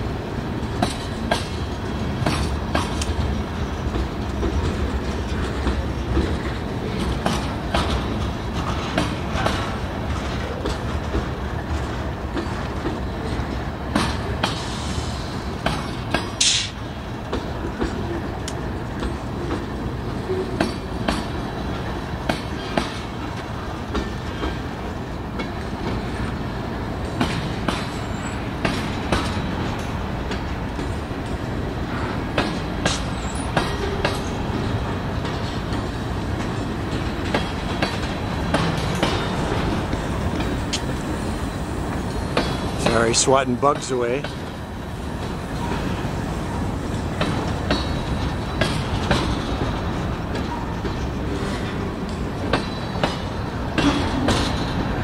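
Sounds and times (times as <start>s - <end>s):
train wheels rumbling on rail: 0.0s - 55.0s
wheels clicking over rail joints: 0.2s - 55.0s.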